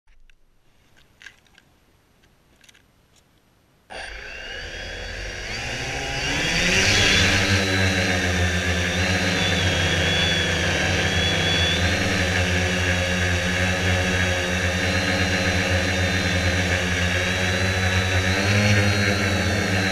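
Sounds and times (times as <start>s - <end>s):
quadcopter motors whining: 3.9s - 19.9s.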